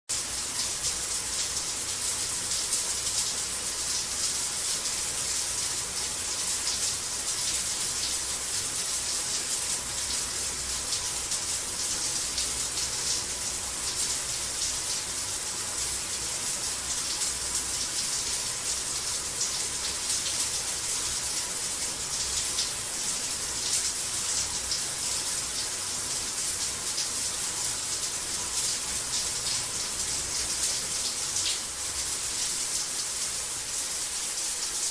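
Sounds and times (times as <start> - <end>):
shower spraying water: 0.1 - 34.9.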